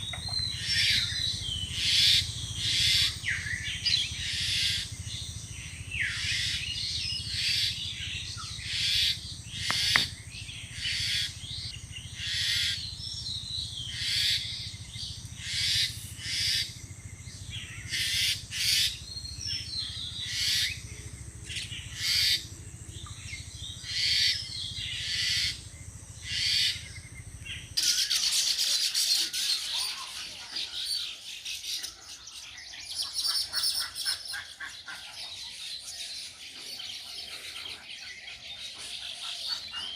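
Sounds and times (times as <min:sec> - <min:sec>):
birds chirping: 0:00.0 - 0:39.9
continuous high chirping: 0:00.0 - 0:39.9
steady low hum: 0:00.0 - 0:39.9.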